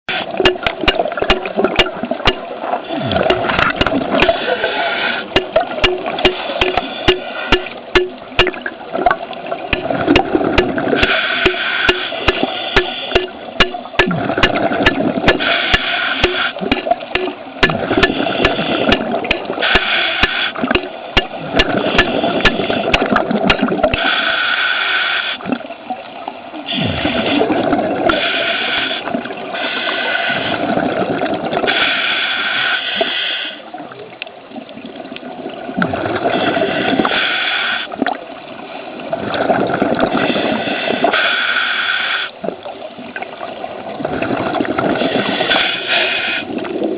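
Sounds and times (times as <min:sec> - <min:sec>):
underwater regulator bubbles: 0:00.1 - 0:24.2, 0:26.7 - 0:32.0, 0:33.8 - 0:38.2, 0:39.0 - 0:41.4, 0:42.4 - 0:46.9
low underwater water rush: 0:00.1 - 0:46.9.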